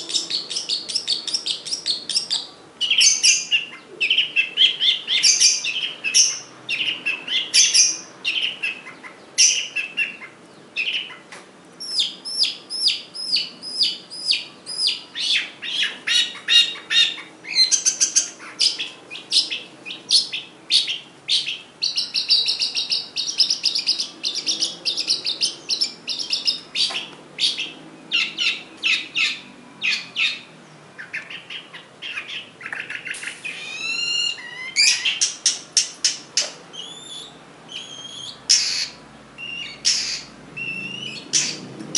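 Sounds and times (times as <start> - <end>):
bird singing fast varied song: 0.0 - 41.9
buzzy bird chatter: 0.0 - 41.9.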